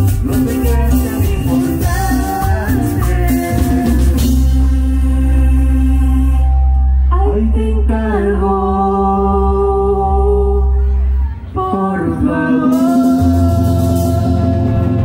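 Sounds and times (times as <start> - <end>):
person singing through pa speakers: 0.0 - 15.0
sustained bass: 0.0 - 15.0.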